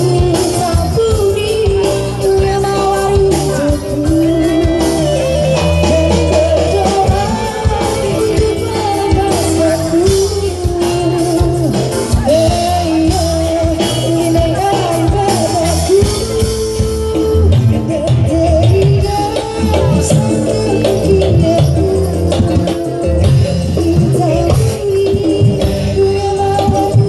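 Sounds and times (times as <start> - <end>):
person singing: 0.0 - 27.0
steady drumming: 0.0 - 27.0.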